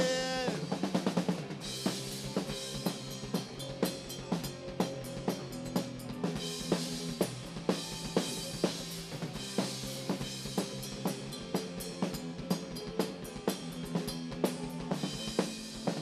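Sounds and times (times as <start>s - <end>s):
bass notes and chords: 0.0s - 16.0s
drum kit beat: 0.0s - 16.0s.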